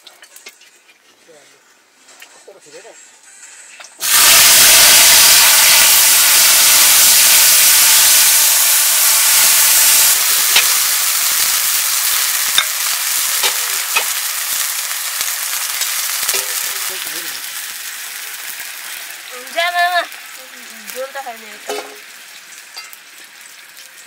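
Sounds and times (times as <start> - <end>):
food sizzling in a hot pan: 3.0 - 24.0.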